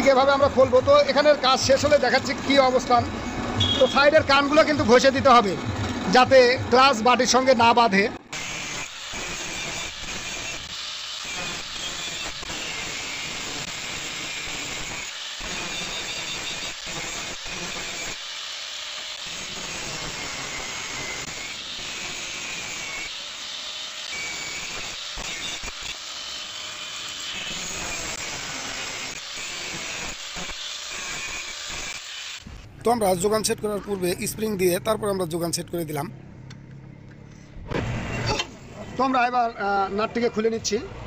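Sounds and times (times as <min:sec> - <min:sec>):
angle grinder grinding steel: 0:00.1 - 0:35.6.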